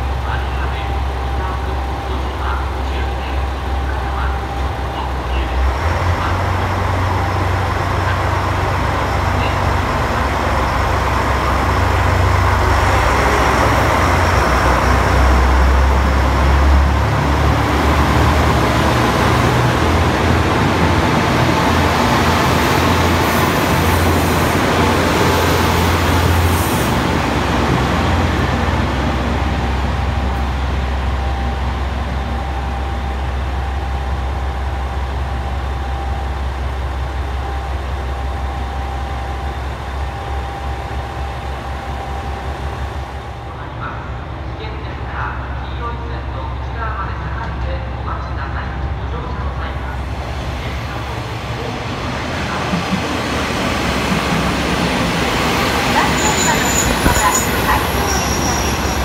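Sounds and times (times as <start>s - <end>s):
diesel railcar engines rumbling: 0.0s - 59.0s.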